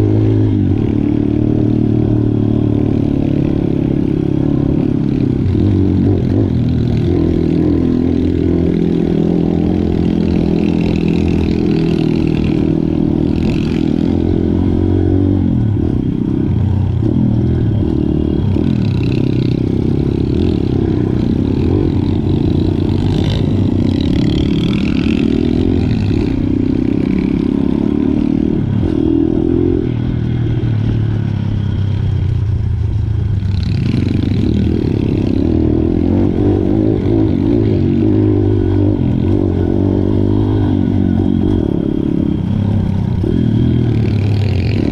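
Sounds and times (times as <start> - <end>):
motorcycle engine revving: 0.0 - 44.9
motorcycle rattling: 0.0 - 44.9.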